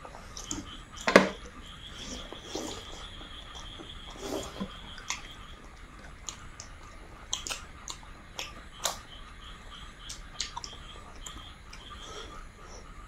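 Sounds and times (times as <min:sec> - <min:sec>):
faint steady high tone: 0:00.0 - 0:13.0
wet chewing clicks and smacks: 0:00.3 - 0:12.2.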